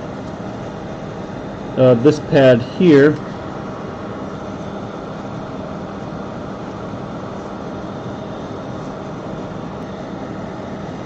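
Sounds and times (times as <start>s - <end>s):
blower fan hum and air rush: 0.0s - 11.0s.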